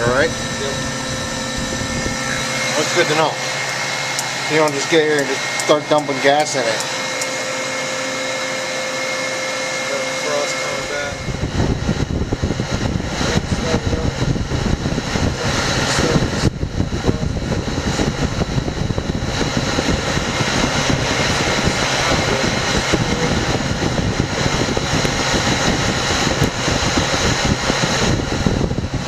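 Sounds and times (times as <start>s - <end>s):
refrigeration unit running: 0.0s - 29.0s.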